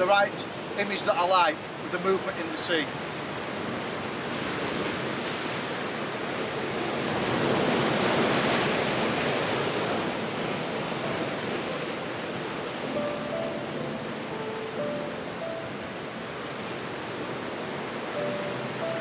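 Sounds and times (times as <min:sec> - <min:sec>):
waves breaking on rocky shore: 0:00.0 - 0:19.0.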